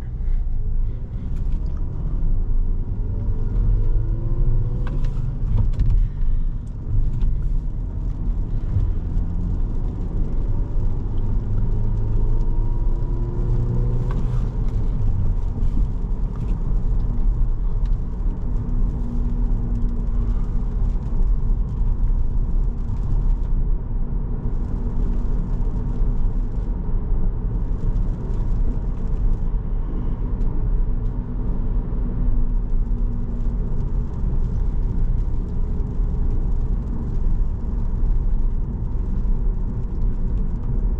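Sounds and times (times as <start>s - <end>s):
car engine inside cabin: 0.0s - 40.9s
road noise: 0.0s - 40.9s.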